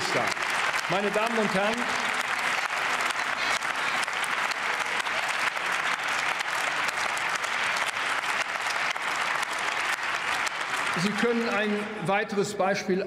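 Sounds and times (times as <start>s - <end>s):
crowd applauding: 0.0s - 12.4s.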